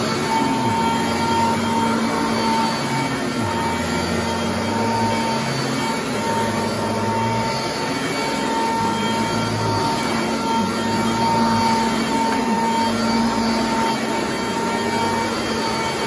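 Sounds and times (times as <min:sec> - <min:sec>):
upright vacuum cleaner on carpet: 0:00.0 - 0:16.0.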